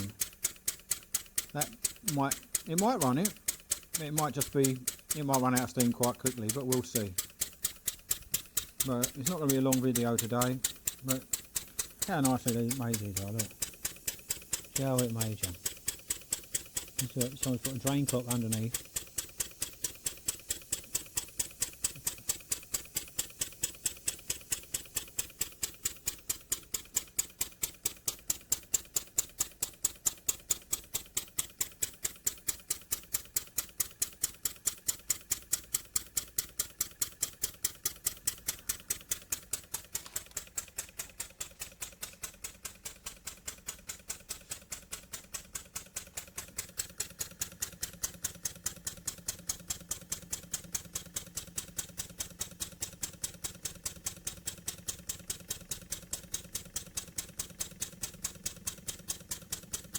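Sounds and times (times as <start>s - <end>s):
model steam engine running: 0.0s - 59.9s.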